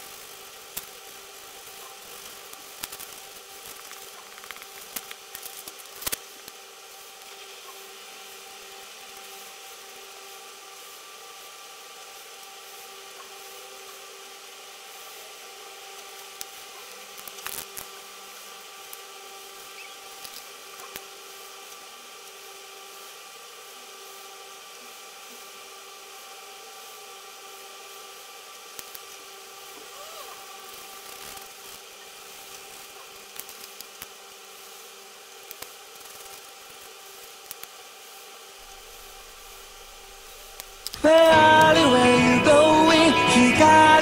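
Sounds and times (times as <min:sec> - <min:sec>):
faint hiss and hum: 0:00.0 - 0:44.0.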